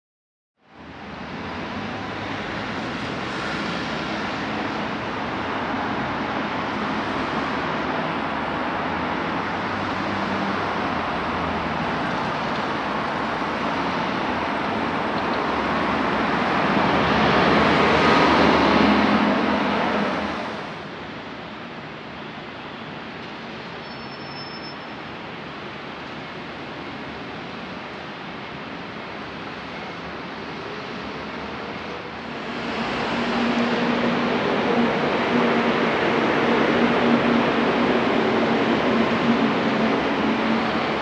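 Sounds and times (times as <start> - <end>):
rushing road traffic: 0.6 - 41.0.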